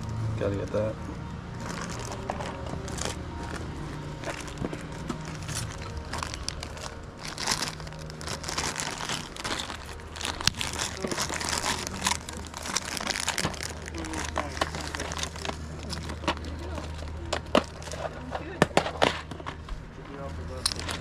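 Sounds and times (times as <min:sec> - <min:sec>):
plastic bag crinkling: 0:01.4 - 0:19.6.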